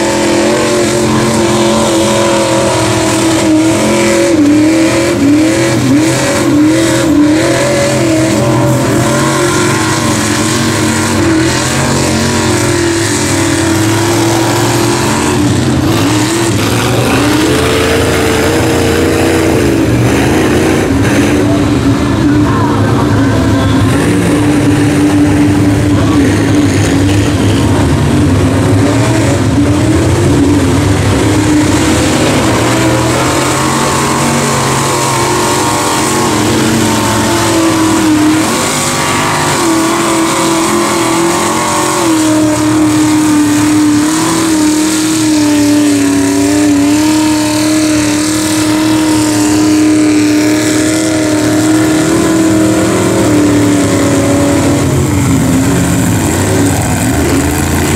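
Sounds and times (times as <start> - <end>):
truck engines revving loud: 0.0 - 57.9.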